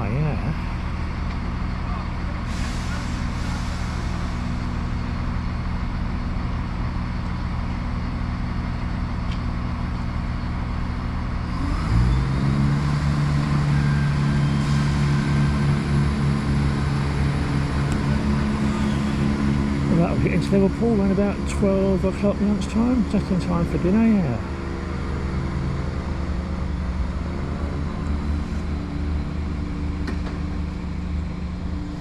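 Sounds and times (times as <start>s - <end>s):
train diesel engines idling and revving: 0.0s - 32.0s.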